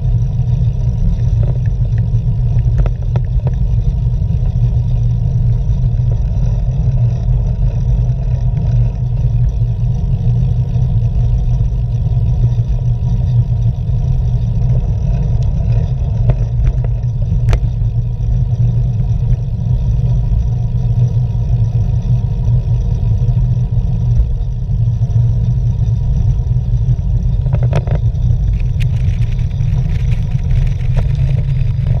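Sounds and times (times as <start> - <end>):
tyre and road noise: 0.0 - 32.0
wind rumble on microphone: 0.0 - 32.0.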